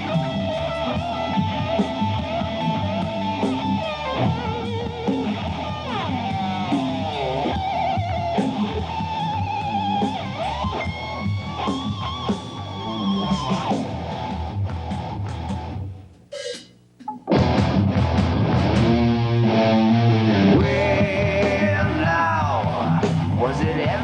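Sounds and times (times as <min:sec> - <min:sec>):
heavy metal band playing: 0:00.0 - 0:15.9, 0:17.3 - 0:24.0
lead electric guitar bends: 0:00.0 - 0:16.0, 0:17.3 - 0:24.0.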